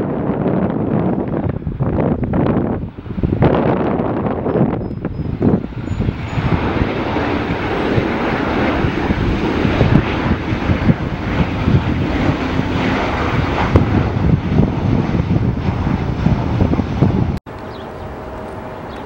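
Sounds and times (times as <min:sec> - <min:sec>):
jet airliner rushing overhead: 0:00.0 - 0:19.0.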